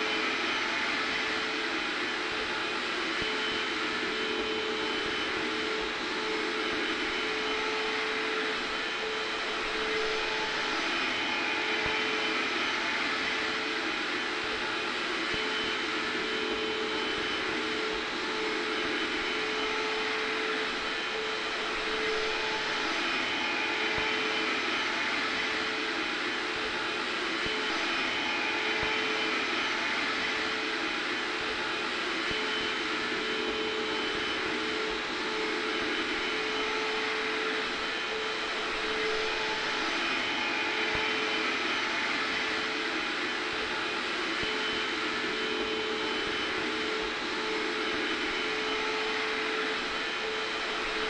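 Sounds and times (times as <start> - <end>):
hair dryer blowing: 0.0 - 51.0
vacuum cleaner running: 0.0 - 51.0.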